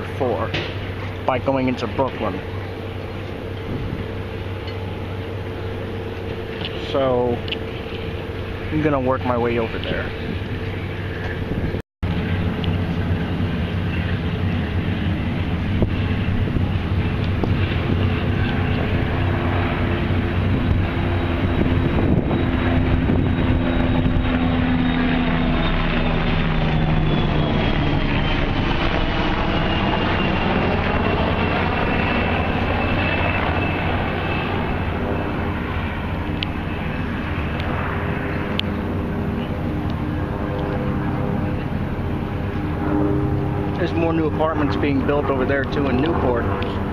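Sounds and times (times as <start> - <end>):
low-flying aircraft engine drone: 0.0 - 46.9.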